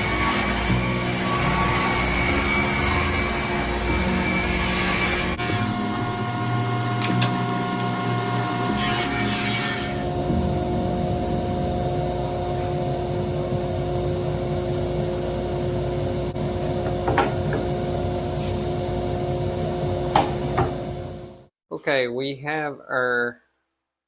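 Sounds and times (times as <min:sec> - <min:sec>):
woodworking machine humming: 0:00.0 - 0:21.0.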